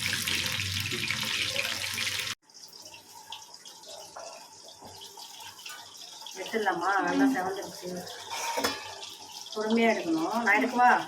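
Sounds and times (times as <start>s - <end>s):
chicken deep-frying in oil: 0.0s - 11.0s
crackles of frying oil: 0.0s - 11.0s.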